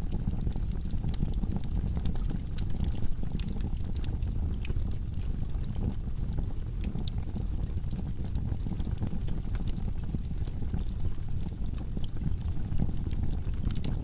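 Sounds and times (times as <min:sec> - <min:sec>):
log fire crackling and popping: 0:00.0 - 0:14.0.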